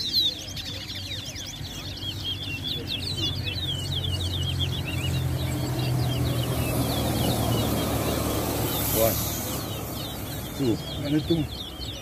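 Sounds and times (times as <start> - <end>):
finch chirps and trills: 0.0 - 12.0
low engine drone: 1.9 - 12.0.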